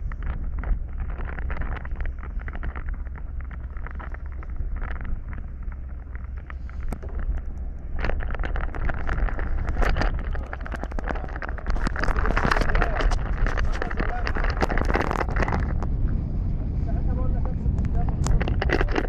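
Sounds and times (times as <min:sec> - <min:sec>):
crackles and knocks: 0:00.0 - 0:19.0
wind buffeting microphone: 0:00.0 - 0:19.0.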